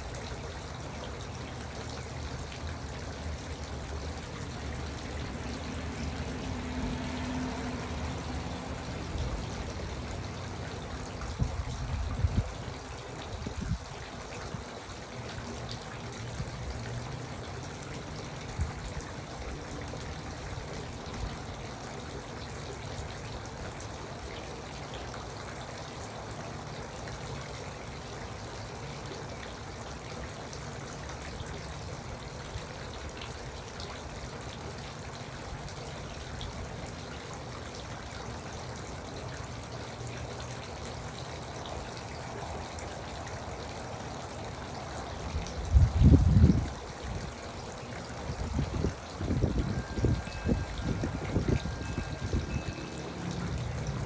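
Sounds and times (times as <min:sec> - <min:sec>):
water fountain trickling and splashing: 0:00.0 - 0:54.0.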